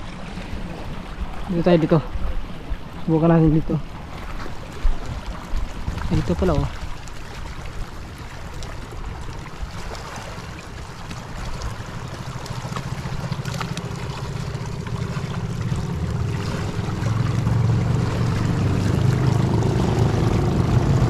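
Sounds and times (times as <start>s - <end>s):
boat engine humming: 0.0s - 21.0s
water and wind noise: 0.0s - 21.0s.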